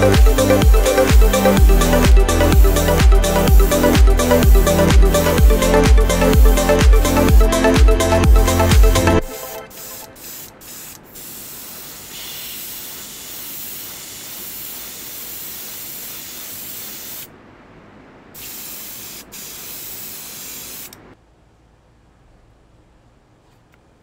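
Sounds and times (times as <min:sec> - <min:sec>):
airbrush spraying hiss: 0:00.0 - 0:17.3, 0:18.4 - 0:21.0.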